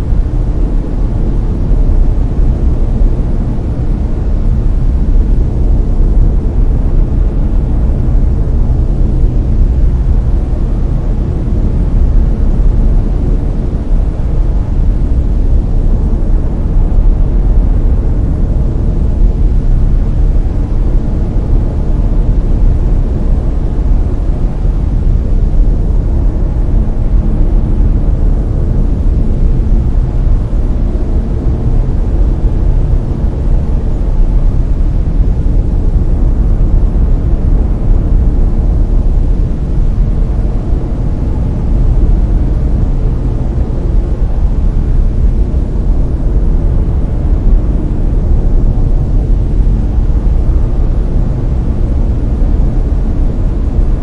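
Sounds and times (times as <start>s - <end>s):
brown noise rushing: 0.0s - 54.0s.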